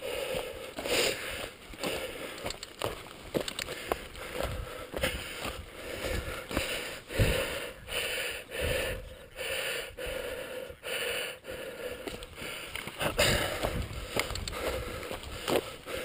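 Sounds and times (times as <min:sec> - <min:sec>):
man breathing hard: 0:00.0 - 0:02.6, 0:03.6 - 0:16.0.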